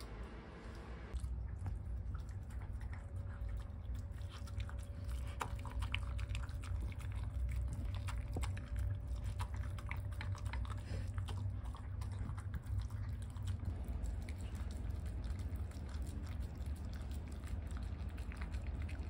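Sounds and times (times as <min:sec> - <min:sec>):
low steady hum: 0:00.0 - 0:19.0
dog licking and smacking food: 0:00.7 - 0:19.0.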